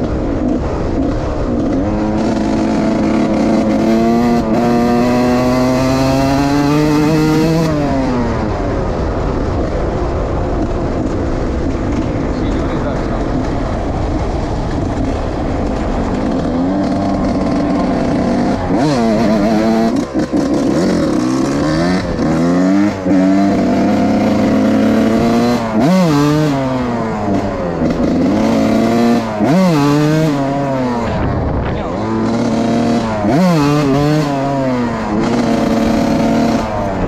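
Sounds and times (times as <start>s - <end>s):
two-stroke motorcycle engine revving: 0.0s - 9.8s, 10.5s - 37.0s.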